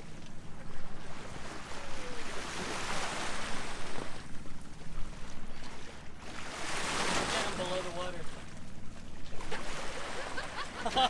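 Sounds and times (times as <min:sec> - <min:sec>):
sea water splashing along hull: 0:00.0 - 0:11.0.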